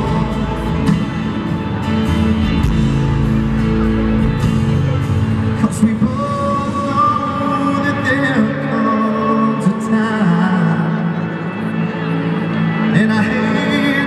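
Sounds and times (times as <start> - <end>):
live country-rock band: 0.0 - 14.0.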